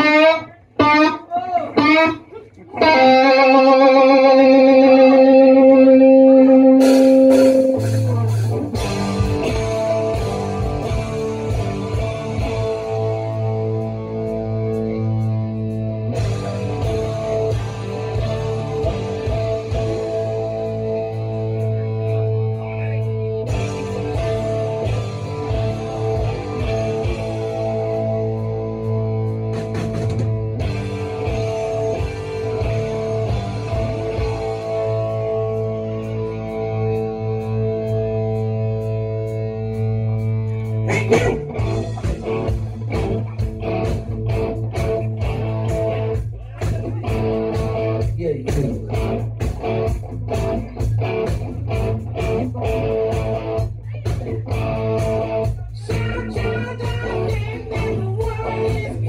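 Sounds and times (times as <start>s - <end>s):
bass line: 0.0s - 59.0s
electric guitar chord stabs: 0.0s - 59.0s
instrumental rock music: 0.0s - 59.0s.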